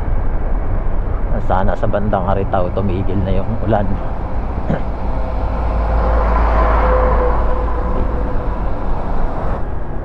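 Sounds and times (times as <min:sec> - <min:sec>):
motorcycle road rumble: 0:00.0 - 0:10.0.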